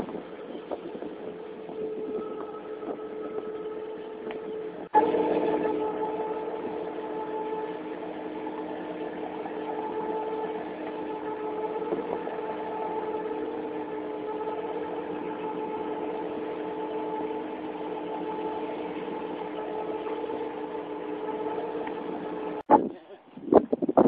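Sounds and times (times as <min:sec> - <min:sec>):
boat engine running: 0:00.0 - 0:22.8.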